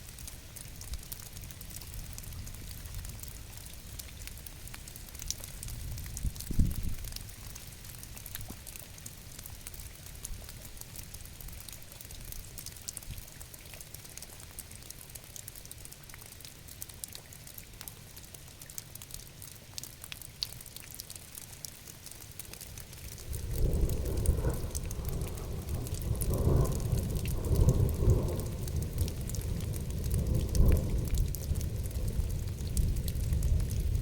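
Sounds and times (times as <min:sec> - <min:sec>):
low rain rumble: 0:00.0 - 0:34.0
raindrops ticking: 0:00.0 - 0:34.0.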